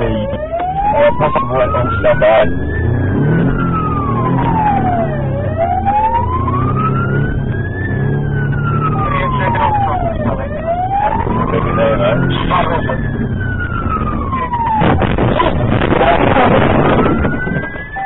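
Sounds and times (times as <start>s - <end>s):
car engine droning: 0.0s - 18.0s
police siren wailing: 0.0s - 18.0s.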